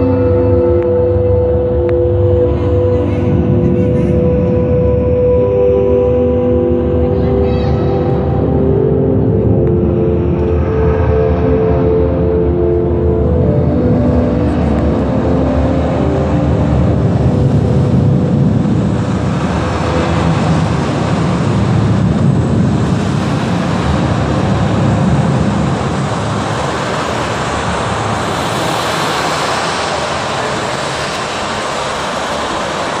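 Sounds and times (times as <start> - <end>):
rumbling noise soundscape: 0.0 - 33.0.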